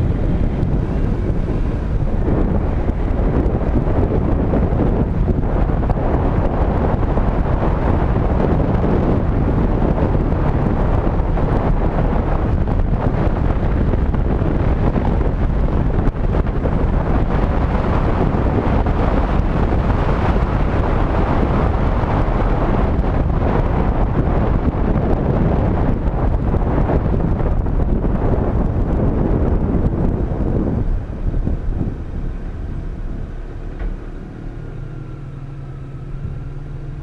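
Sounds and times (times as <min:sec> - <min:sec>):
vehicle road noise: 0:00.0 - 0:37.0
wind rumble on microphone: 0:00.0 - 0:37.0.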